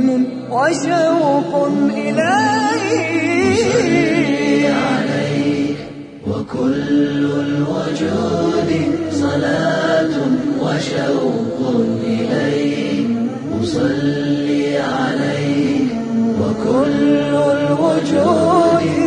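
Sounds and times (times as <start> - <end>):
voices chanting unaccompanied: 1.5 - 19.0.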